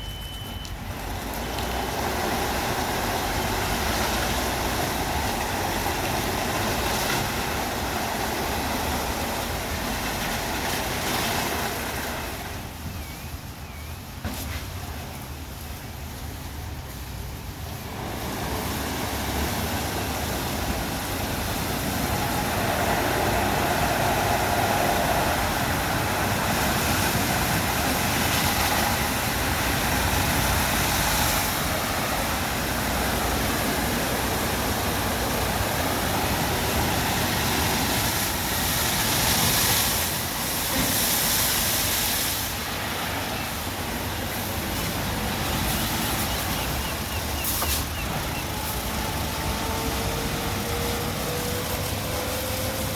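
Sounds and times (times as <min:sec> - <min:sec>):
car wash water spray and machinery: 0:00.0 - 0:52.9.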